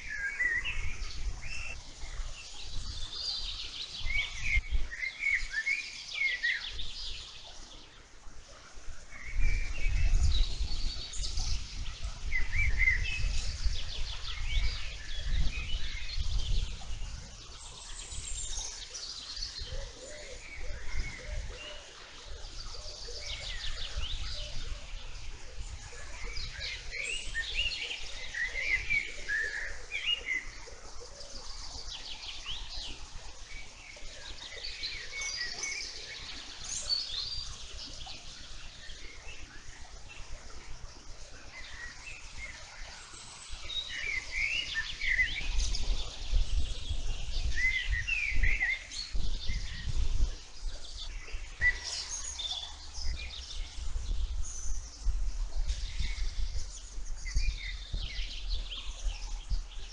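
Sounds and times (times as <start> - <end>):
birds singing and chirping: 0.0 - 59.9.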